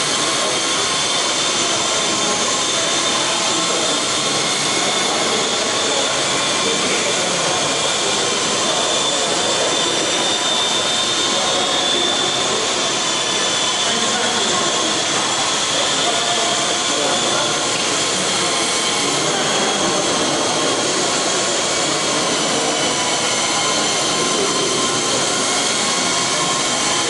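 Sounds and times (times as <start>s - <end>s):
model helicopter rotor whine: 0.0s - 27.0s.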